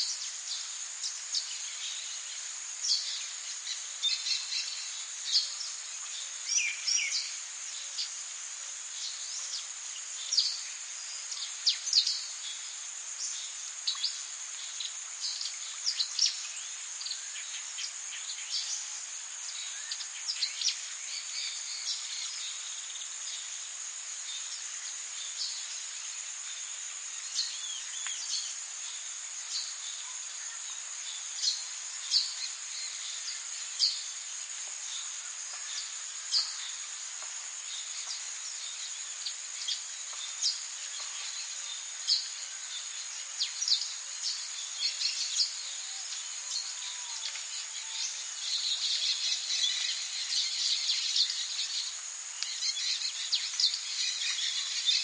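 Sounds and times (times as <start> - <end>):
even hiss: 0.0 - 55.0
high insect drone: 0.0 - 55.0.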